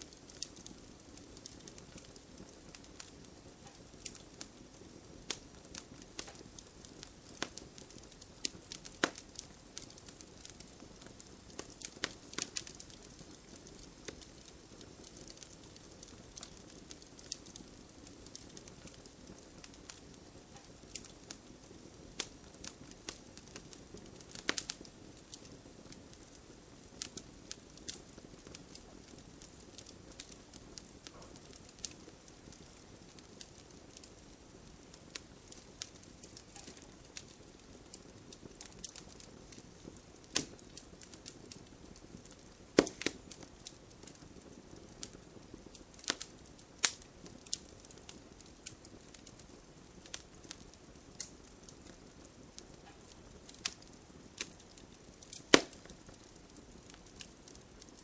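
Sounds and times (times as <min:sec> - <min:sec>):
bonfire crackling: 0:00.0 - 0:58.0
wood popping in fire: 0:00.0 - 0:58.0.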